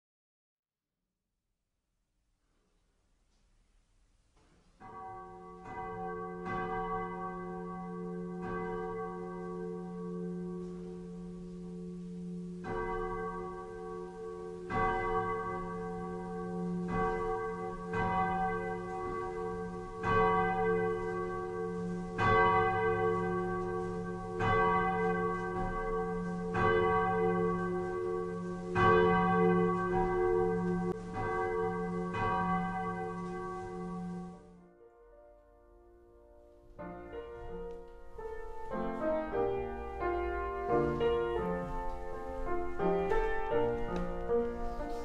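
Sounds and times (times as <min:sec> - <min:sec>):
church bell tolling: 0:04.8 - 0:45.0.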